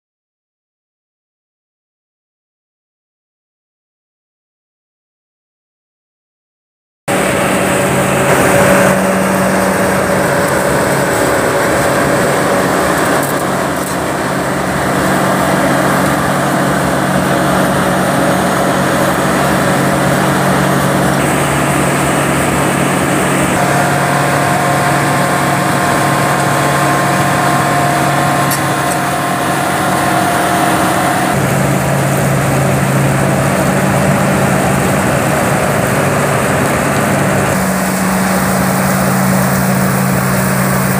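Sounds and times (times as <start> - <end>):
loud diesel engine drone: 7.1 - 40.9.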